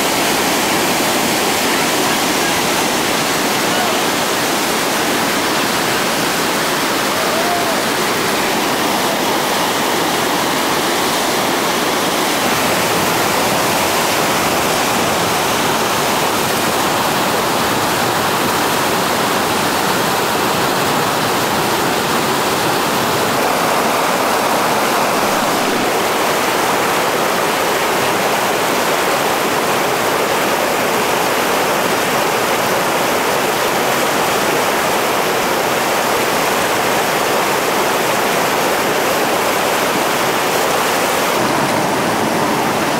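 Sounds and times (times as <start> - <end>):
river rapids rushing: 0.0 - 42.9.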